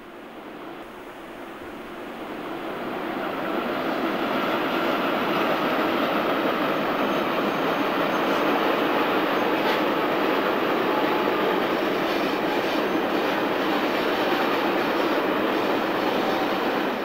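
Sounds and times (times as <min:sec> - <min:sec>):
train wheels on rails: 0:00.6 - 0:17.0.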